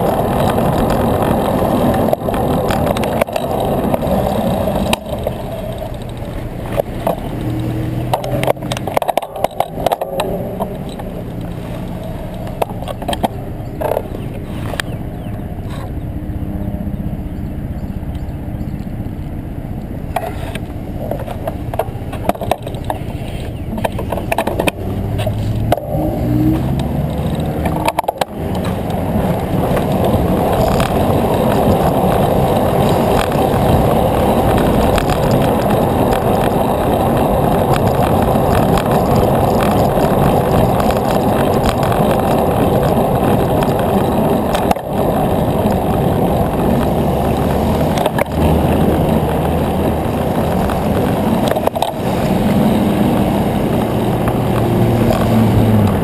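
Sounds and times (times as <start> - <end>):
bike clicks and knocks from bumps: 0.0 - 16.0, 20.1 - 56.0
bicycle tyres rolling on pavement: 0.0 - 56.0
wind rushing over microphone: 0.0 - 56.0.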